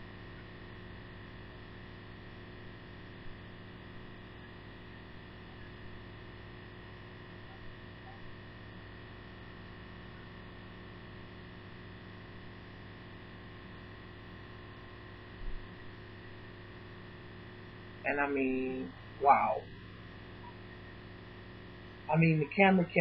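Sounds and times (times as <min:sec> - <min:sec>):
electrical hum and hiss: 0:00.0 - 0:23.0.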